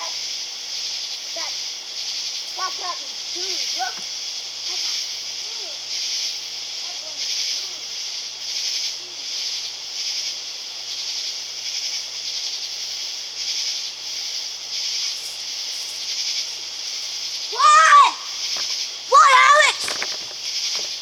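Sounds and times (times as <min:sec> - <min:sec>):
night insects buzzing: 0:00.0 - 0:21.0.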